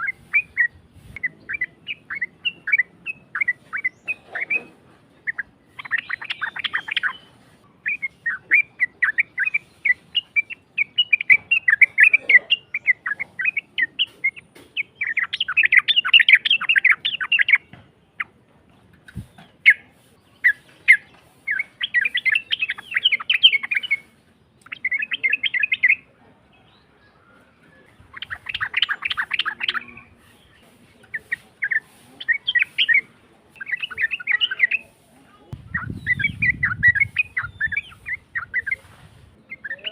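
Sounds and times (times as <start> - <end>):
bulbul chattering song: 0.0 - 18.4, 19.1 - 26.1, 27.8 - 39.9.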